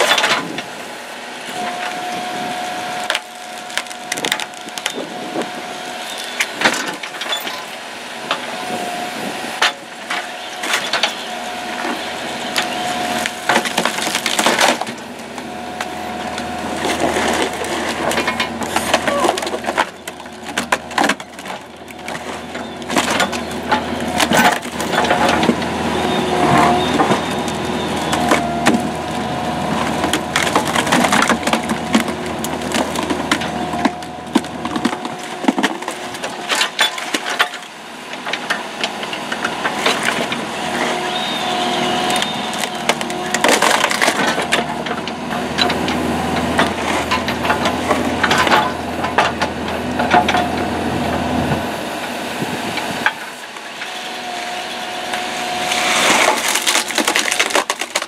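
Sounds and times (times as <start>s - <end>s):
excavator and hydraulic hum: 0.0s - 58.0s
wood cracking and splintering: 3.0s - 7.7s, 9.6s - 58.0s.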